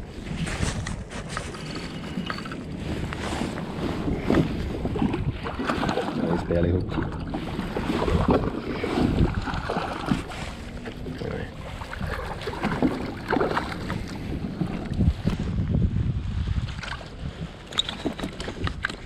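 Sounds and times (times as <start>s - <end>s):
water splashing against hull: 0.0s - 19.0s
wind buffeting microphone: 0.0s - 19.0s.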